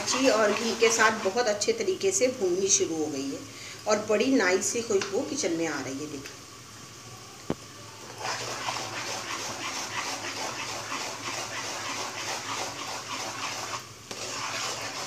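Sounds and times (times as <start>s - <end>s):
semolina sizzling in a pan: 0.0s - 15.0s.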